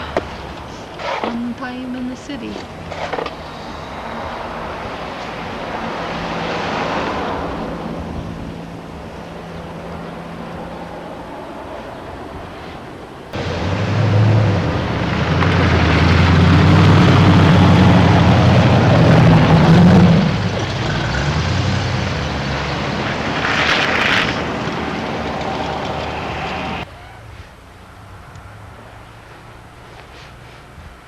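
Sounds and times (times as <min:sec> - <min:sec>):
loud engine running: 0:02.2 - 0:30.5
heavy rushing noise: 0:02.5 - 0:31.0.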